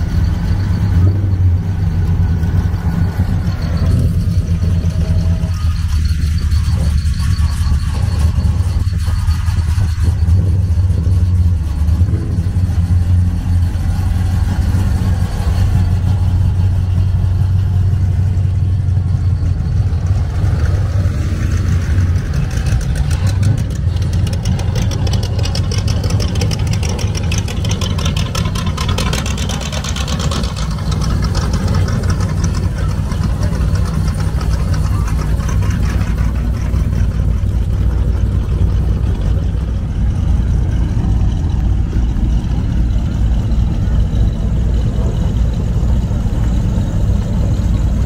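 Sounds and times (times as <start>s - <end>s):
car engines running slowly: 0.0s - 48.0s.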